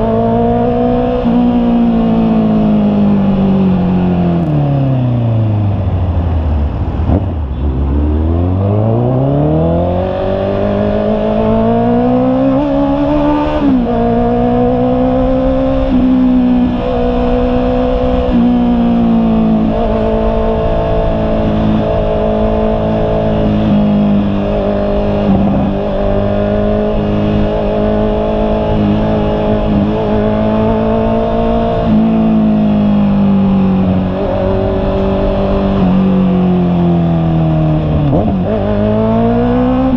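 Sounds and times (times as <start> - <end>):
motorcycle engine revving: 0.0 - 5.8, 7.0 - 39.9.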